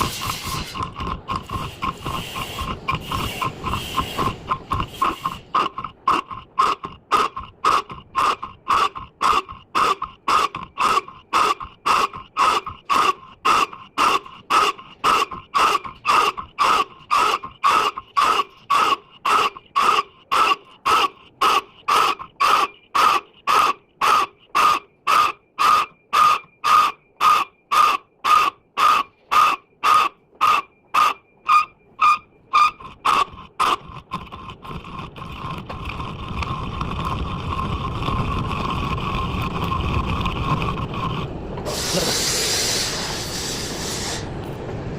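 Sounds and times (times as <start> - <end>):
lathe scraping: 0.0 - 44.5.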